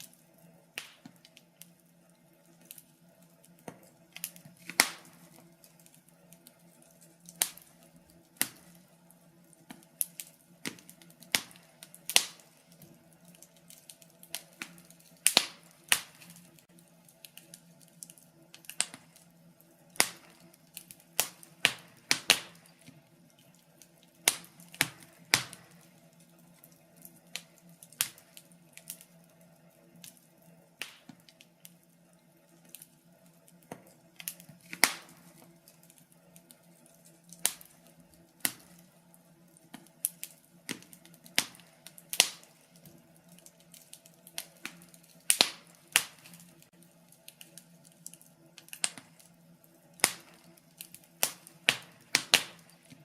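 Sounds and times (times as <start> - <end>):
faint steady hum: 0.0 - 53.0
wood fire crackling: 0.0 - 53.0.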